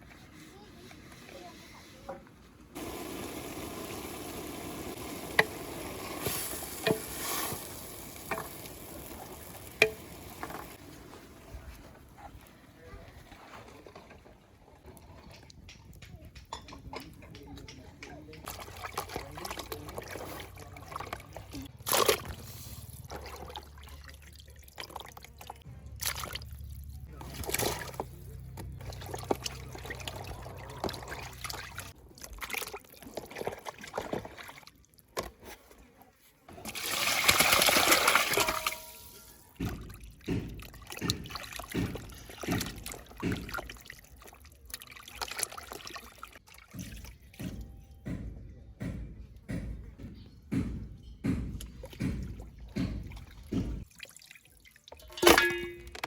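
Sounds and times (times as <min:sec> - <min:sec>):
water sloshing and trickling: 0:05.4 - 0:48.0, 0:51.6 - 0:56.0.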